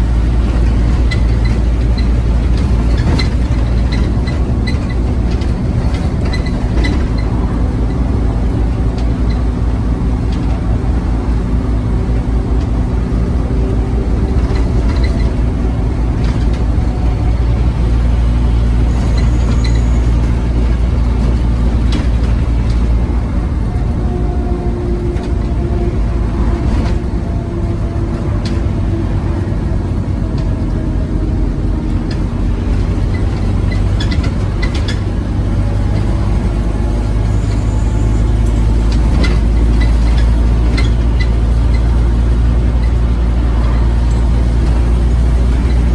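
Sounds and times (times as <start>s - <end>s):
bus diesel engine drone: 0.0s - 45.9s
rattles and clicks: 0.0s - 45.9s.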